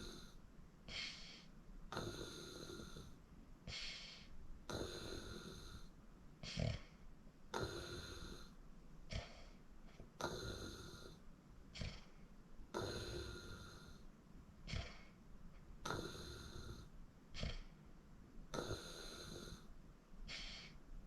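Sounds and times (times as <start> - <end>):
person snoring faintly: 0.0 - 15.2, 15.8 - 17.8, 18.5 - 20.8.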